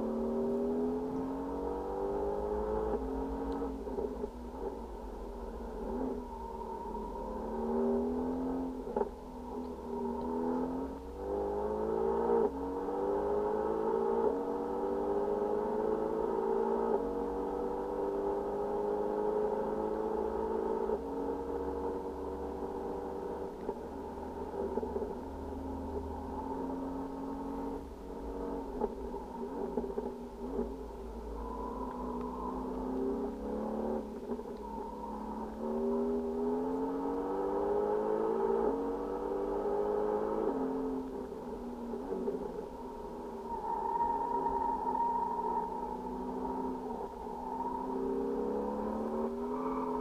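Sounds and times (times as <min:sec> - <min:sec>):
car engine accelerating: 0:00.0 - 0:50.0
road rumble: 0:00.0 - 0:50.0.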